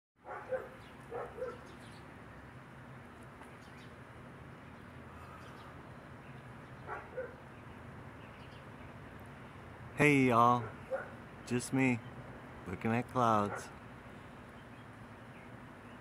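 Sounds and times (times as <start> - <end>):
low outdoor hum: 0.2 - 16.0.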